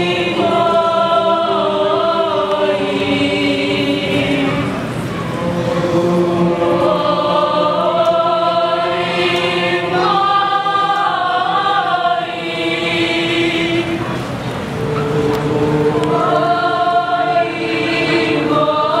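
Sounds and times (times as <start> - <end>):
chorus singing slow chant: 0.0 - 19.0.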